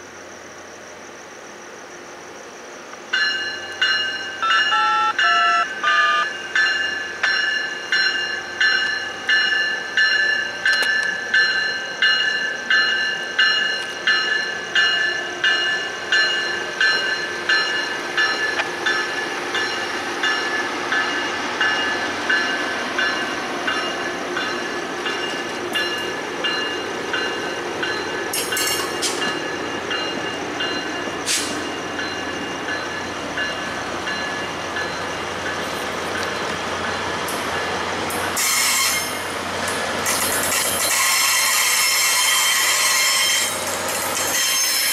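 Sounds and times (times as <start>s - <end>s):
train coaches rumbling past: 0.0s - 44.9s
train bell ringing: 3.1s - 39.4s, 40.1s - 44.9s.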